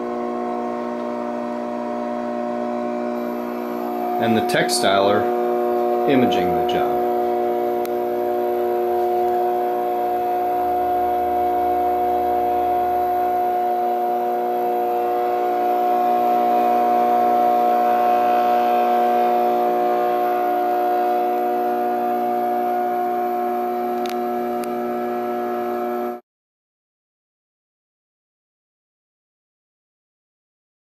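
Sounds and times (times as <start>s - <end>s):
printing machine whine: 0.0s - 25.4s.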